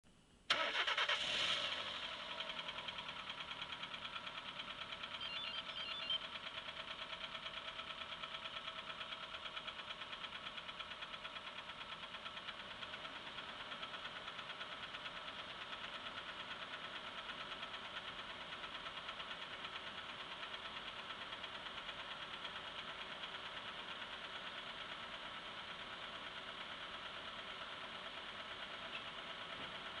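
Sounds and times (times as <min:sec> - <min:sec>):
engine idling with knock: 0:02.2 - 0:05.2, 0:06.2 - 0:30.0.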